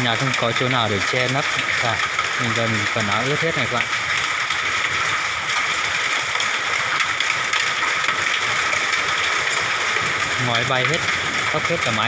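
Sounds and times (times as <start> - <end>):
heavy hail and rain beating down: 0.0 - 12.0.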